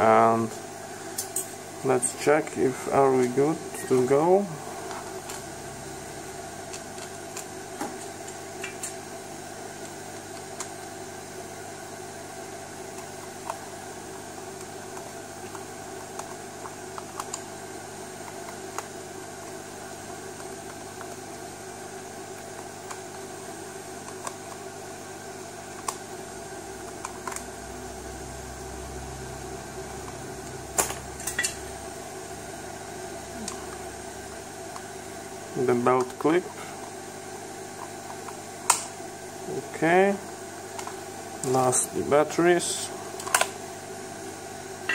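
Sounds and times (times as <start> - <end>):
steady mechanical hum: 0.0 - 44.9.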